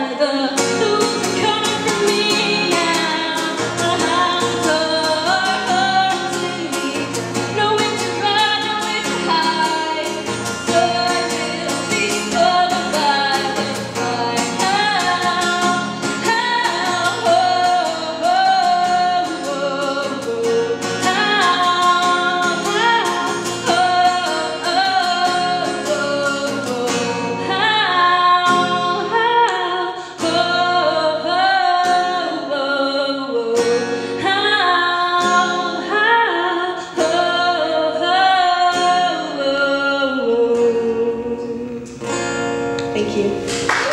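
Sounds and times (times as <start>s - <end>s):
woman singing into microphone: 0.0s - 42.2s
acoustic guitar strumming: 0.1s - 43.9s.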